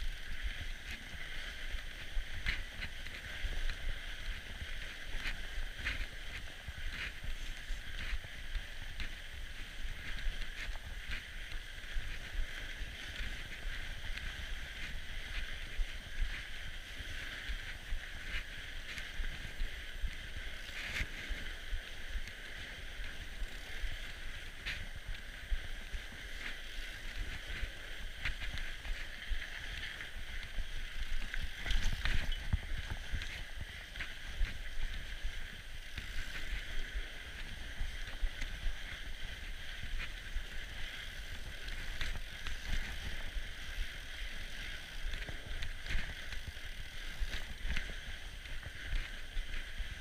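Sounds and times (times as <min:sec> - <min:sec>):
bike clicks and rattles: 0:00.0 - 0:49.9
bike tyres rumbling on snow: 0:00.0 - 0:50.0.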